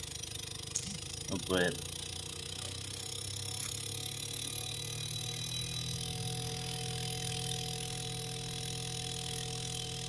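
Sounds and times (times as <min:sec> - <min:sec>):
refrigerator compressor humming: 0:00.0 - 0:10.0.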